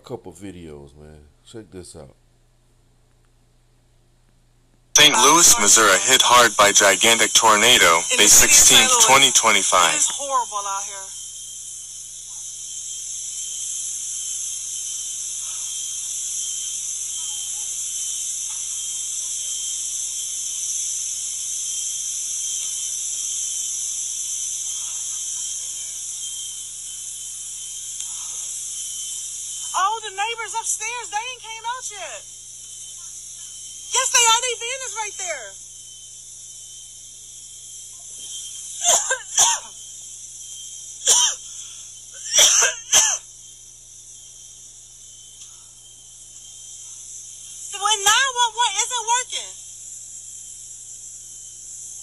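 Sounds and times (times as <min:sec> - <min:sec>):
gas hissing from broken line: 0:05.0 - 0:52.0.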